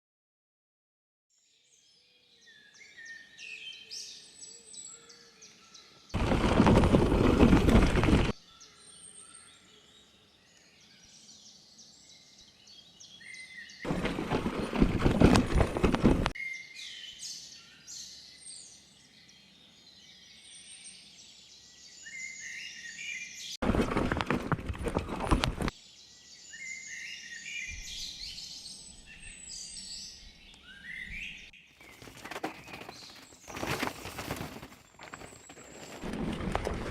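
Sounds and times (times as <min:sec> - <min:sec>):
birds chirping: 0:02.4 - 0:36.9.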